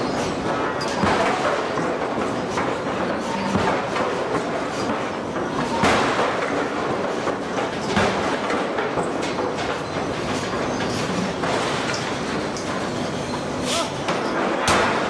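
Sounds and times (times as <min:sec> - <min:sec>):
machinery clattering: 0:00.0 - 0:15.0.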